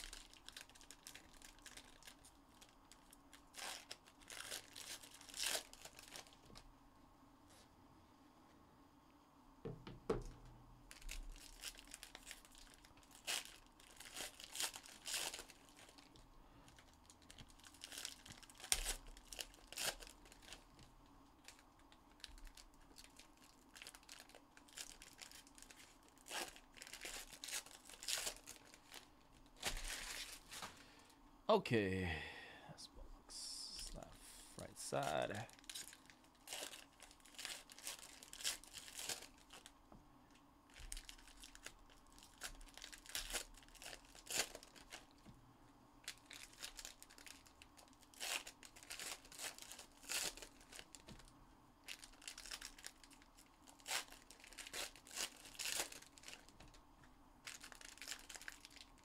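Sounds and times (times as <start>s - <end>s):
foil wrappers tearing and crinkling: 0.0s - 6.6s, 10.9s - 20.7s, 21.4s - 30.8s, 35.0s - 39.7s, 40.7s - 45.2s, 46.0s - 56.8s, 57.4s - 59.0s.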